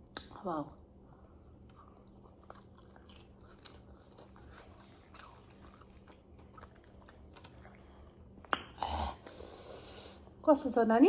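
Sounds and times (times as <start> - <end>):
faint chewing: 1.2 - 10.4.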